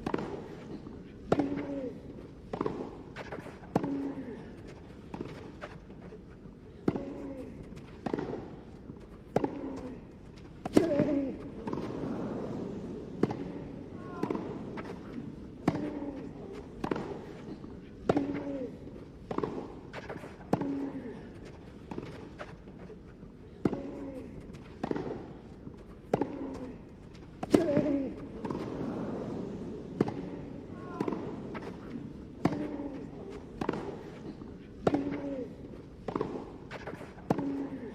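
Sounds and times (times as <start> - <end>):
racket hitting tennis ball: 0.0 - 37.9.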